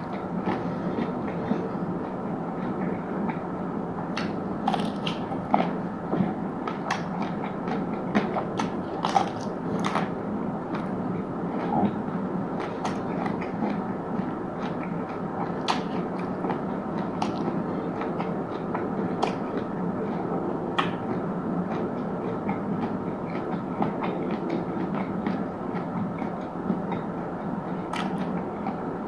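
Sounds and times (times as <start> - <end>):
chewing food: 4.1 - 27.1, 27.7 - 28.8.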